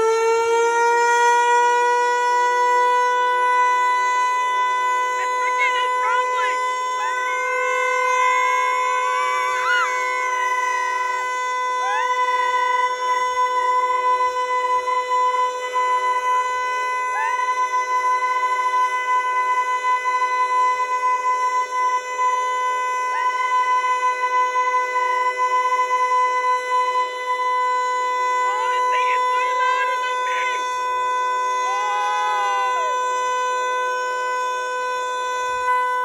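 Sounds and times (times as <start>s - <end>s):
warning siren steady tone: 0.0s - 36.0s.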